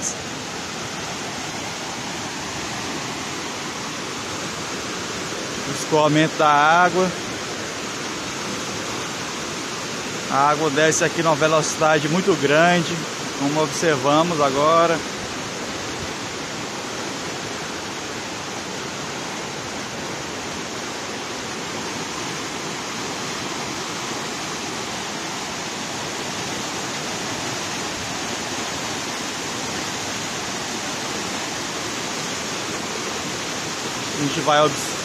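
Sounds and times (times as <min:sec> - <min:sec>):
water rushing down spillway: 0:00.0 - 0:35.0.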